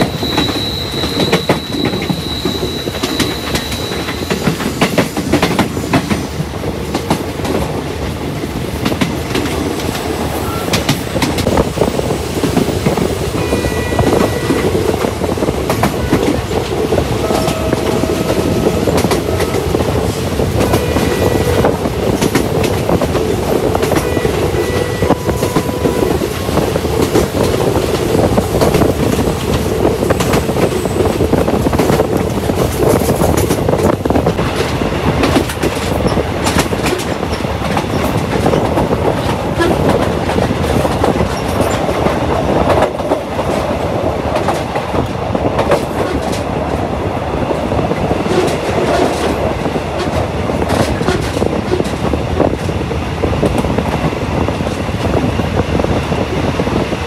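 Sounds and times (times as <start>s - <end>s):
rumbling train rolling noise: 0.0s - 57.0s
train wheels clicking over rail joints: 0.0s - 57.0s.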